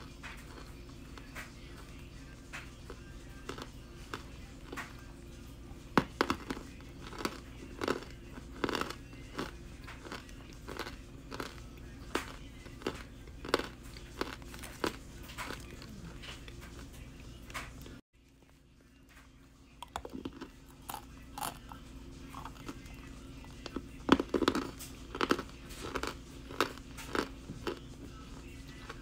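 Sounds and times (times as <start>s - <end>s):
dry crunching while chewing: 0.0s - 5.1s, 5.9s - 29.0s.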